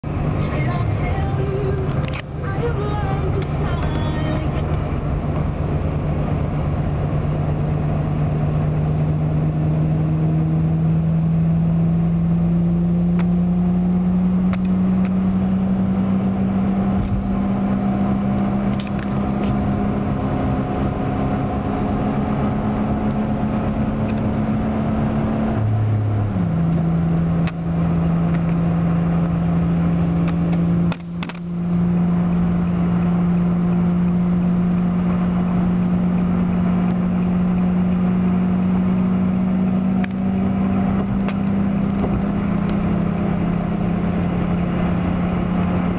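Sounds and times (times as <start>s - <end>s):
car engine hum at highway speed: 0.0s - 45.9s.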